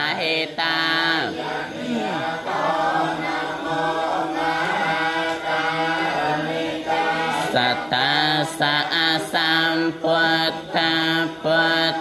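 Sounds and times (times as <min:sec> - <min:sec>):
men chanting together: 0:00.0 - 0:12.0.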